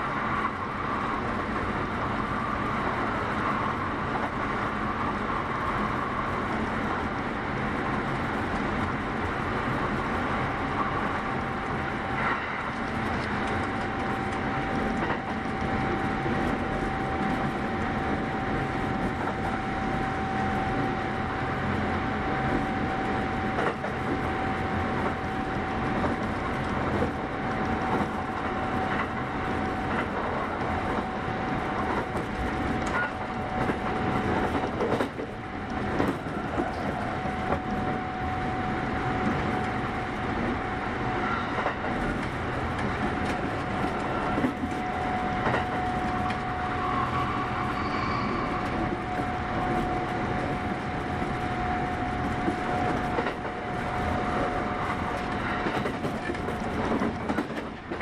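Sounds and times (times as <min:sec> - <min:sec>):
clickety-clack over rail joints: 0:00.0 - 0:58.0
train wheels on rails: 0:00.0 - 0:58.0.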